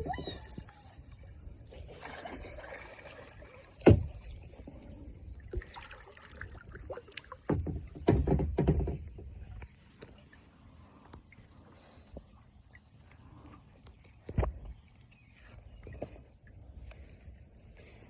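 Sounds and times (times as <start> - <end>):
water splashing around kayak: 0.0 - 18.0.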